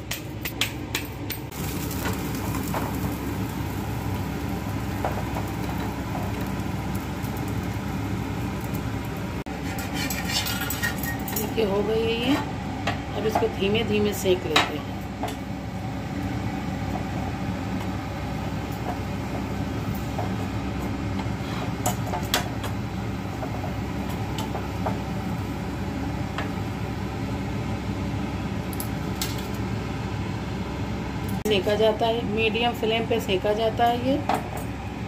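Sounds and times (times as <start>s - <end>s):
gas stove flame rumbling: 0.0s - 35.0s.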